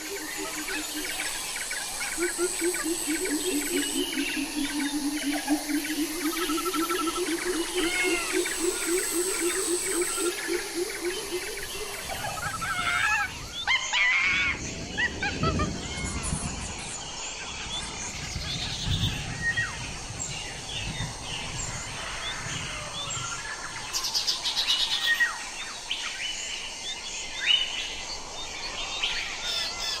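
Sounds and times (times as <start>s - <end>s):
birds chirping and trilling: 0.0s - 30.0s
steady background hiss: 0.0s - 30.0s.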